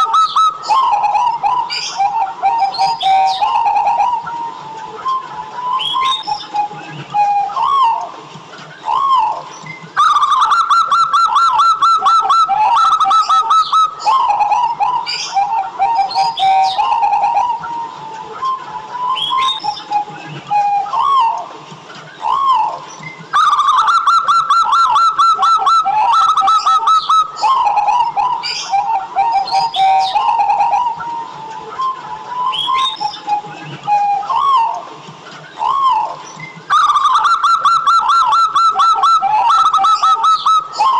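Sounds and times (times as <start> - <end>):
dove cooing: 0.0 - 8.1, 8.8 - 21.4, 22.2 - 34.9, 35.5 - 40.9.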